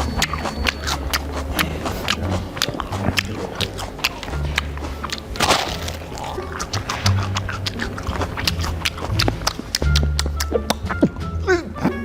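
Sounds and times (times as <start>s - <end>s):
background music with bass line: 0.0s - 12.0s
clip-clop clicking percussion: 0.0s - 12.0s.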